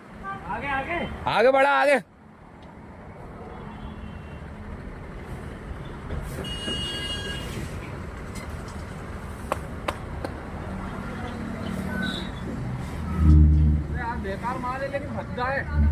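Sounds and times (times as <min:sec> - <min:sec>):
heavy vehicle engine rumbling: 0:02.3 - 0:15.9.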